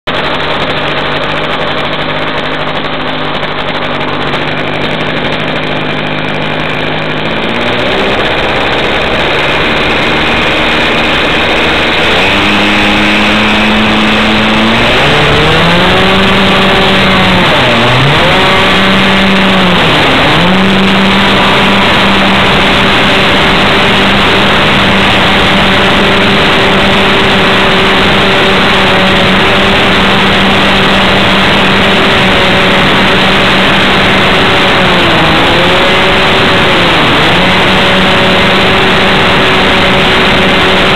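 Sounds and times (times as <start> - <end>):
model airplane engine: 0.0 - 40.9.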